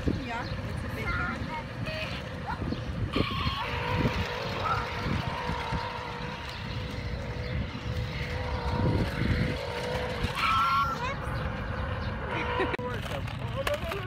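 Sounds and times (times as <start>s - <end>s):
low uneven rumble: 0.0s - 14.0s
small electric motor whining: 0.0s - 14.0s.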